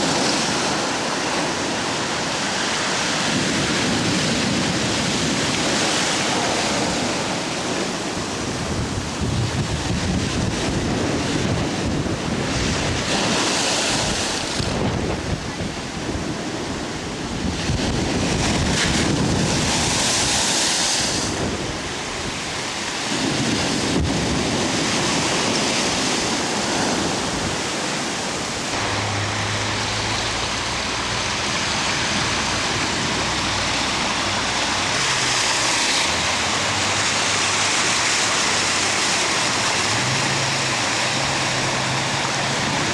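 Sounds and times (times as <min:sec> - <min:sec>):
waves crashing against sea wall: 0:00.0 - 0:42.9
wind buffeting microphone: 0:00.0 - 0:42.9.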